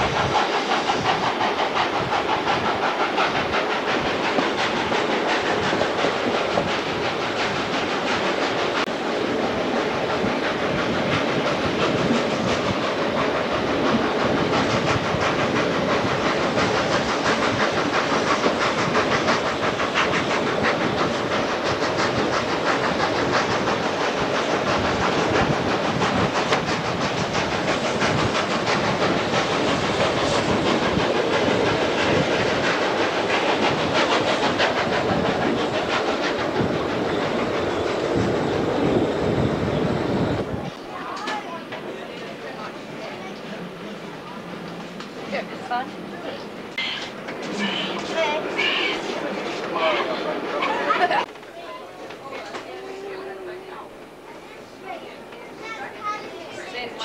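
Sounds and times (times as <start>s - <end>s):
steam hissing: 0.0s - 57.0s
train wheels clattering over joints: 0.0s - 57.0s.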